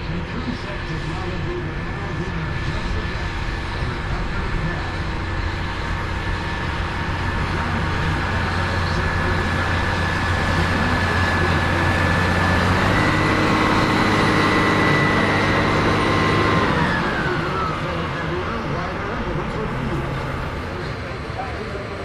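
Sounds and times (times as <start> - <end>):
engine whine: 0.0 - 22.0
tractor diesel engine running: 0.0 - 22.0.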